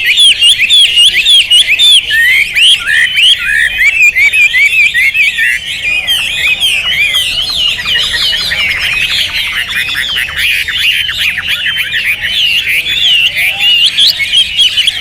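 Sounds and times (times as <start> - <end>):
bird singing warbling song: 0.0 - 15.0.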